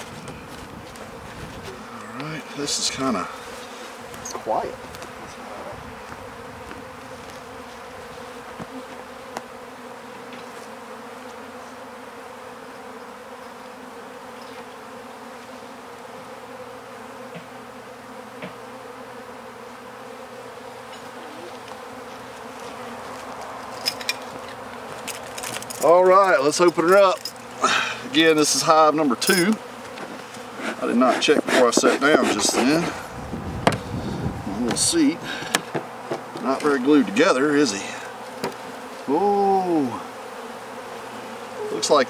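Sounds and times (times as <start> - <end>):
honey bees humming: 0.0 - 42.0.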